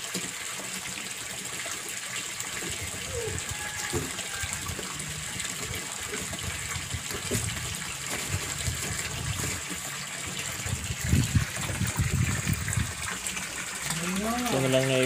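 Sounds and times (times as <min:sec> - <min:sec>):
water pouring into pond: 0:00.0 - 0:15.0.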